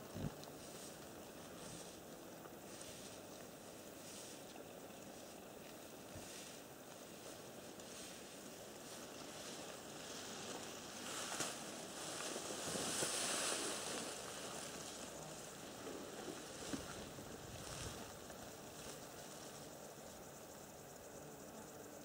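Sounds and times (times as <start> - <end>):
soft wind noise: 0.0 - 21.0.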